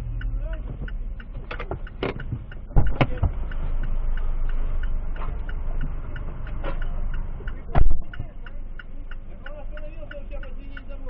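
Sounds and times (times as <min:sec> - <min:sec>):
low car rumble: 0:00.0 - 0:11.0
turn signal relay ticking: 0:00.0 - 0:11.0.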